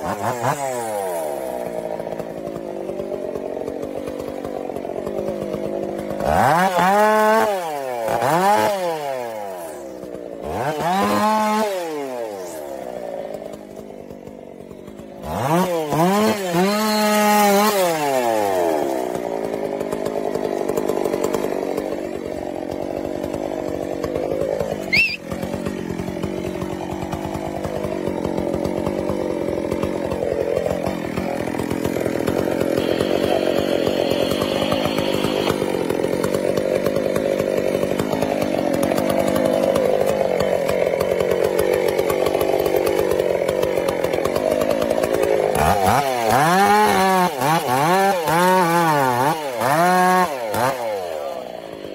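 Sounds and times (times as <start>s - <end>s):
chainsaw cutting into tree trunk: 0.0s - 51.9s.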